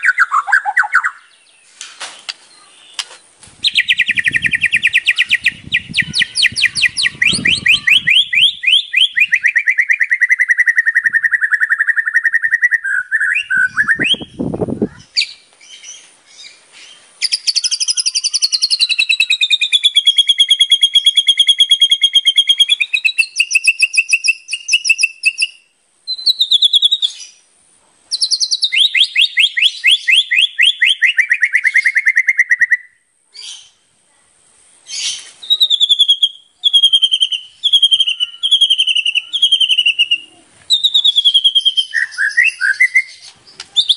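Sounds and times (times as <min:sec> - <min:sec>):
songbird singing trills and whistles: 0:00.0 - 0:01.7, 0:02.3 - 0:27.4, 0:28.1 - 0:33.8, 0:34.9 - 0:43.9.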